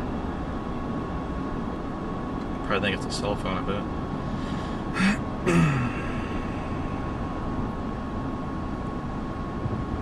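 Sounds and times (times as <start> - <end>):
faint high whine: 0.0 - 10.0
road and engine noise in car: 0.0 - 10.0.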